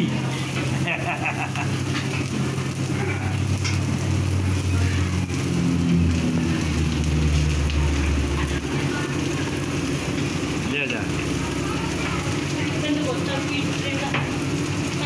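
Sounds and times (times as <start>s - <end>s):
gas burner flame rumble: 0.0s - 15.0s
vegetables sizzling in a wok: 0.0s - 15.0s.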